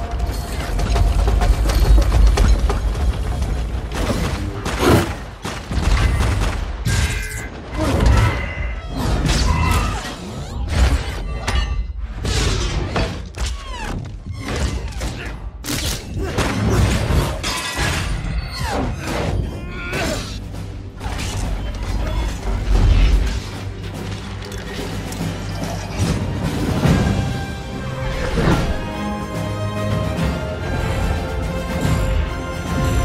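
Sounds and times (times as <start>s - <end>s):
music: 0.0s - 33.0s.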